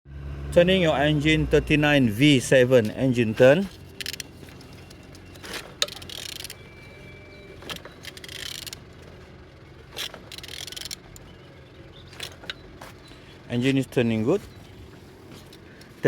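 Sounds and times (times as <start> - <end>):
engine clicks and knocks: 0.5 - 16.0.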